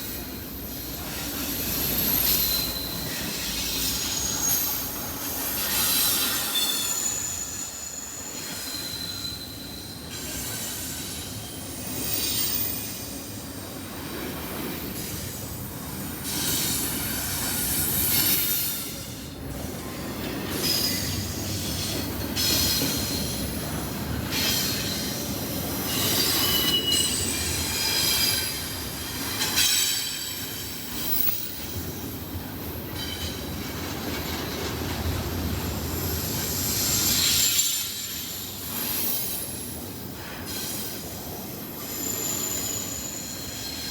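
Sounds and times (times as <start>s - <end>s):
train rumbling: 0.0s - 43.9s
train wheels squealing: 0.0s - 43.9s.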